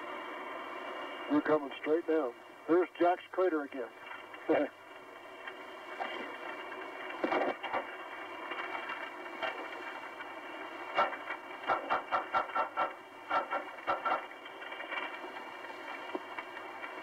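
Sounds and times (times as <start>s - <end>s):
faint steady tones: 0.0s - 17.0s
tape recording hiss: 0.0s - 17.0s.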